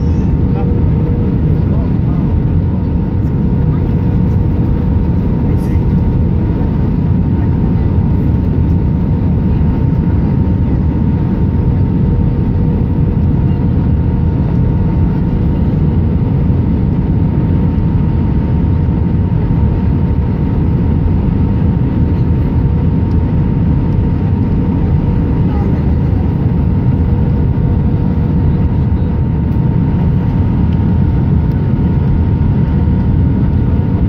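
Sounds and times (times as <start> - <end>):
airplane cabin rumble: 0.0 - 34.0.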